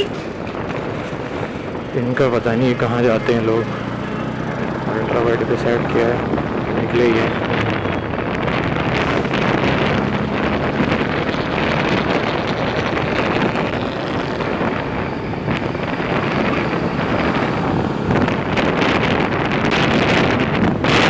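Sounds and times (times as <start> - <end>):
faint motorcycle engine hum: 0.0 - 21.0
wind buffeting microphone: 0.0 - 21.0.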